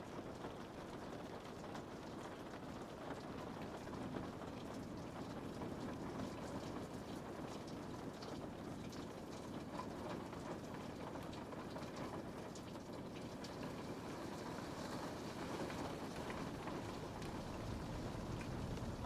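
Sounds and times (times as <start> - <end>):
rain on a window pane: 0.0 - 19.0.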